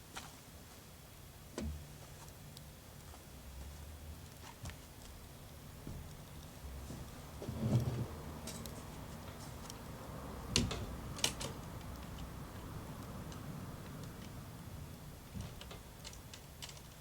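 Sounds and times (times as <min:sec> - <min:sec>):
small wood fire crackling: 0:00.0 - 0:17.0.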